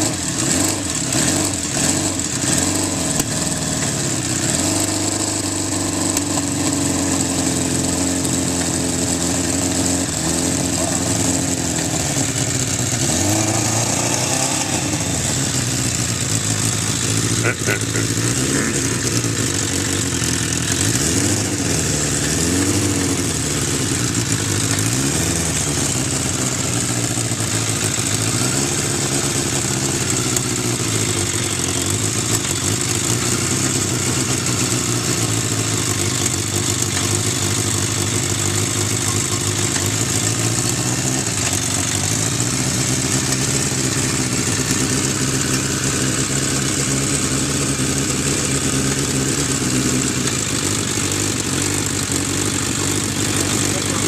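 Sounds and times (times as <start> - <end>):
motorcycle engine revving and idling: 0.0 - 54.0.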